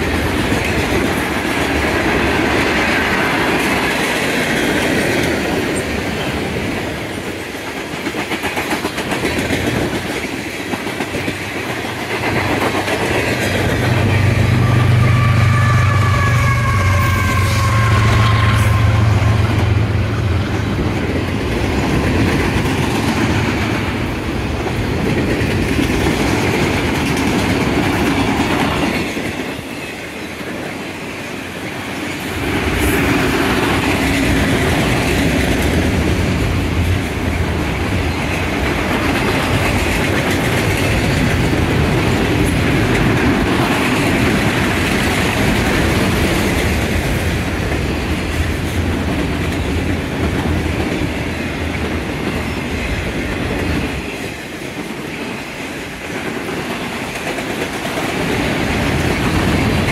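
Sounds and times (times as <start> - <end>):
diesel locomotive engine hum: 0.0 - 59.9
freight train rumbling past: 0.0 - 59.9.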